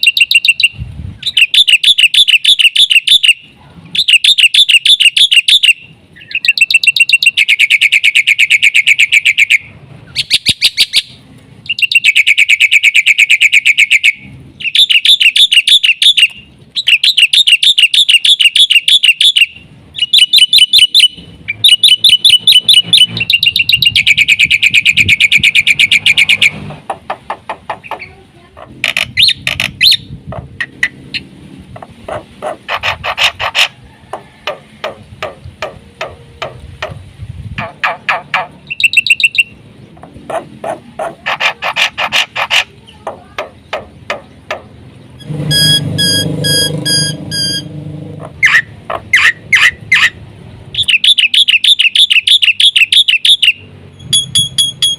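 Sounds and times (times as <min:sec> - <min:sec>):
bird singing chattering notes: 0:00.0 - 0:33.8, 0:34.5 - 0:54.9.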